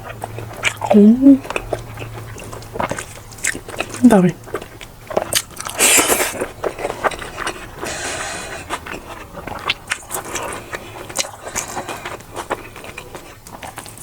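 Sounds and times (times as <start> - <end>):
biting and chewing: 0.0 - 14.0.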